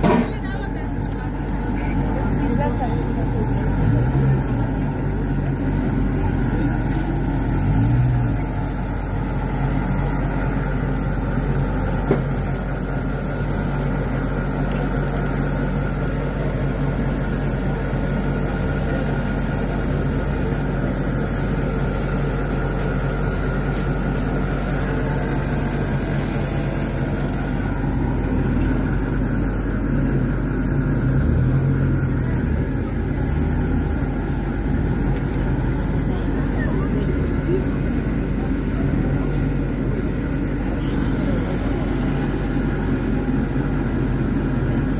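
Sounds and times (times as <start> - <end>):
constant hiss: 0.0 - 44.9
steady mechanical hum: 0.0 - 44.9.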